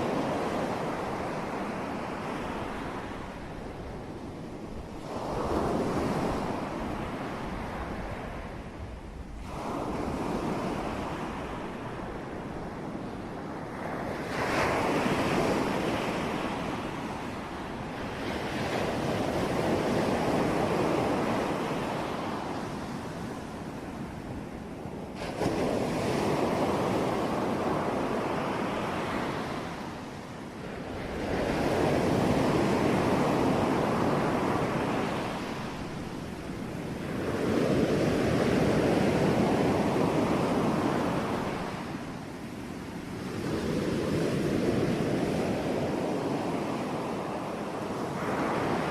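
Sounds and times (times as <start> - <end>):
waves breaking on shore: 9.4 - 48.9.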